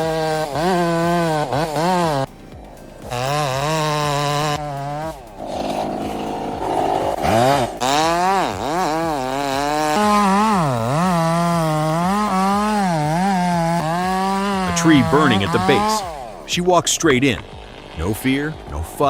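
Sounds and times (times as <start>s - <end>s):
chainsaw cutting at high revs: 0.0s - 19.0s.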